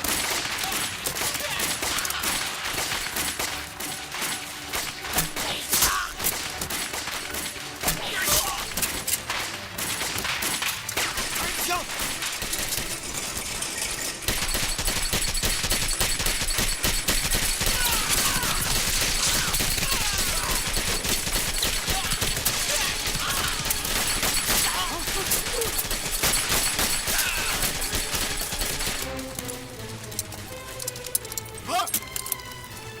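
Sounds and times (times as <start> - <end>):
machine-gun bursts: 0.0 - 29.6
rapid gunshots: 0.0 - 30.1.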